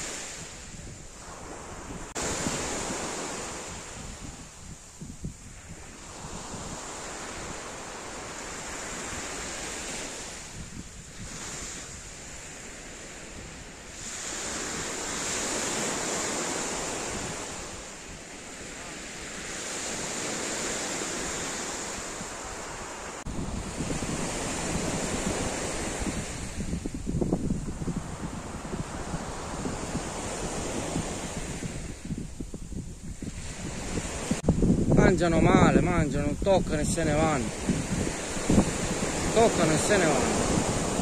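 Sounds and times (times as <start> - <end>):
waves breaking on pebble beach: 0.0 - 32.4, 33.0 - 41.0
wind buffeting microphone: 0.0 - 41.0.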